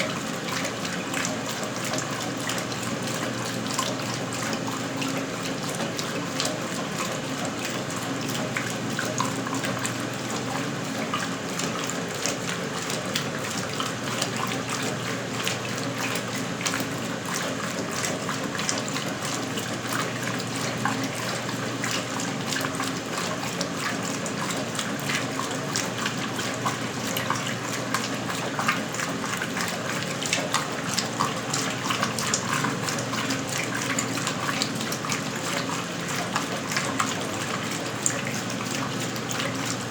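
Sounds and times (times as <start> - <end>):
washing machine hum: 0.0 - 39.9
washing machine water splashing: 0.0 - 39.9.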